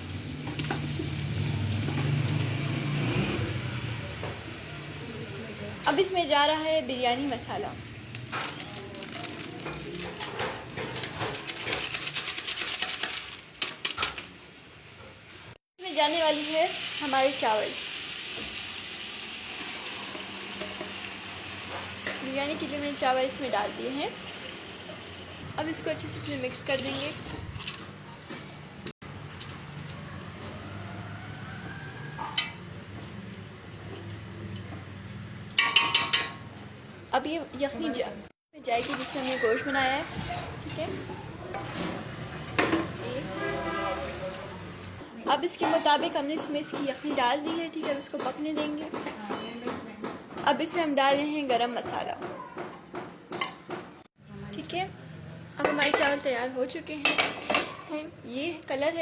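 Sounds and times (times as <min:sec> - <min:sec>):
food sizzling: 0:00.0 - 0:49.2.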